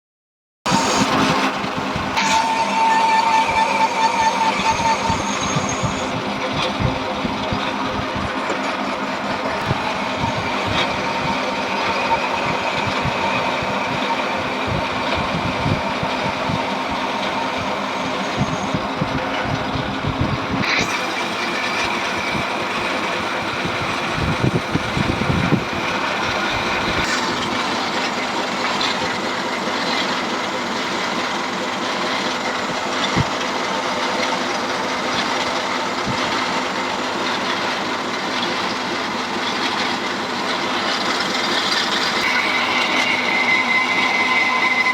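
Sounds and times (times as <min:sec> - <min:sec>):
metal lathe running: 0:00.7 - 0:44.9.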